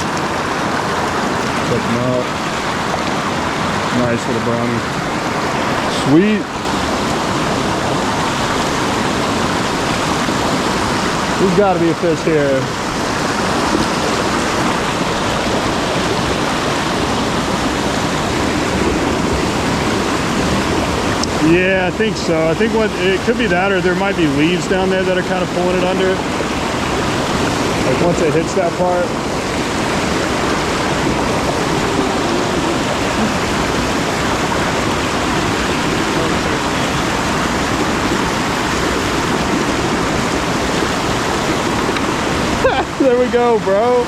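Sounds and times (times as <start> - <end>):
creek water rushing: 0.0 - 44.0.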